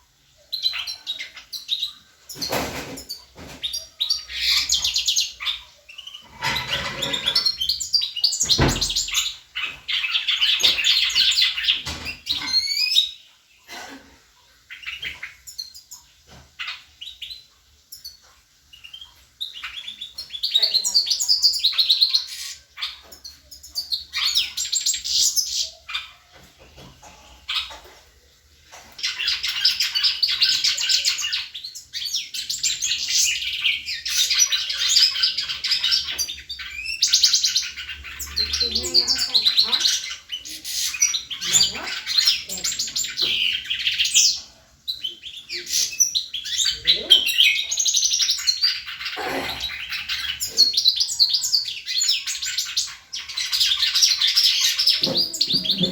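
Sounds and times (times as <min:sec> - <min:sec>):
songbird twittering and chirping: 0:00.0 - 0:13.6, 0:14.6 - 0:28.1, 0:28.7 - 0:55.9.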